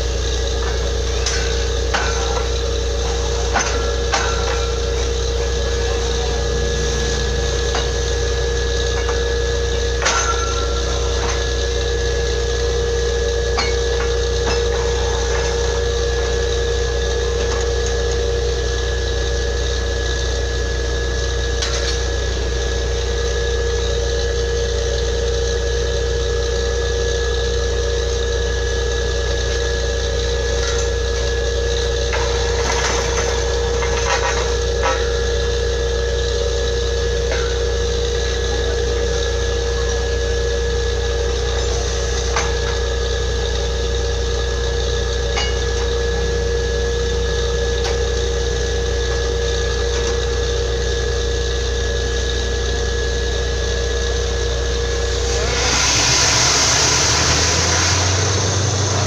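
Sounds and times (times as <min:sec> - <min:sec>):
drilling rig engine humming: 0:00.0 - 0:59.0.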